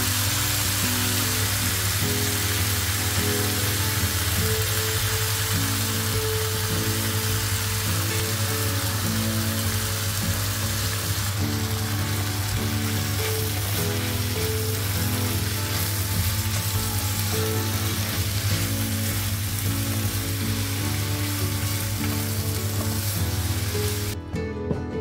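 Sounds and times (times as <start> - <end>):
vegetables sizzling in frying pan: 0.0 - 24.2.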